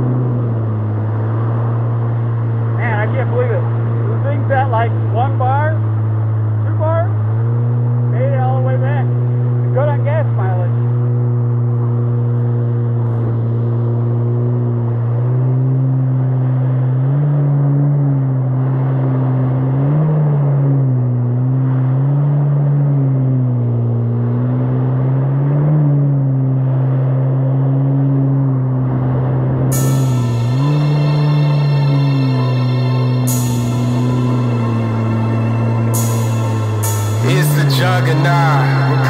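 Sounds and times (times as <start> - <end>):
jet ski engine revving: 6.1 - 39.0.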